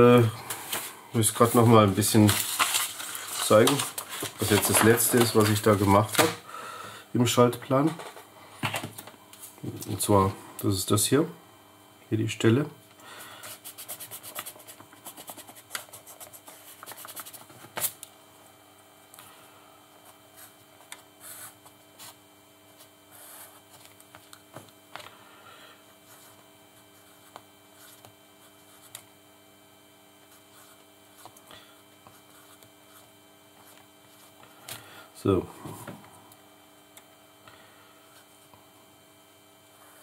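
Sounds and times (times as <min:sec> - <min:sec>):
faint electrical hum: 0:00.0 - 0:40.0.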